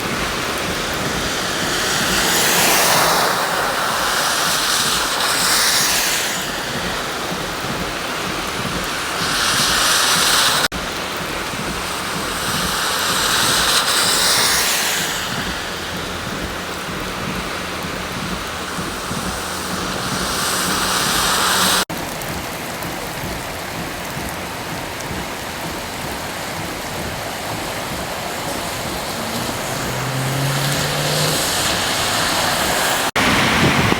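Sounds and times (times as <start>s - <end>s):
heavy rain: 0.0s - 33.9s
tyres splashing through water: 0.0s - 33.9s.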